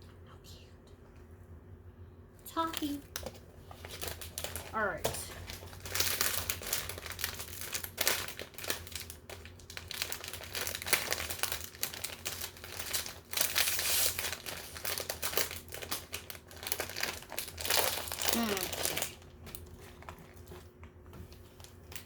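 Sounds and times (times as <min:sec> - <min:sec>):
packaging crinkling: 0:02.8 - 0:20.7.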